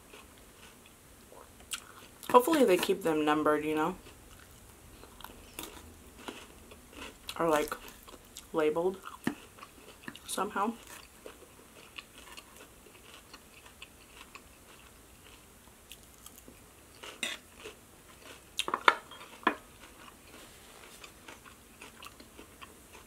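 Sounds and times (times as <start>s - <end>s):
chewing crisp salad: 0.0s - 23.0s.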